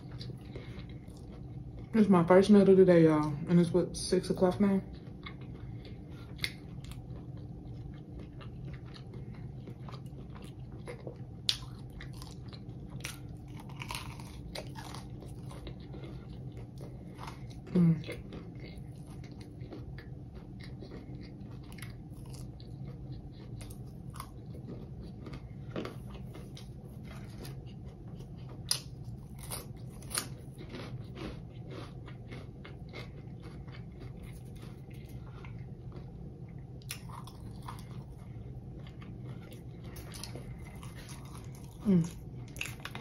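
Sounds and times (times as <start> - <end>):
chewing crunchy snack: 0.0 - 2.3, 4.7 - 43.0.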